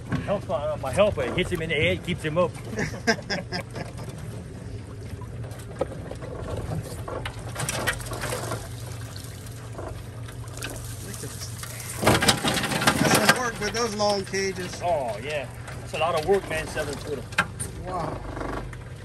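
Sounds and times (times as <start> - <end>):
water trickling and splashing: 0.0 - 18.0
outboard motor idling: 0.0 - 19.0.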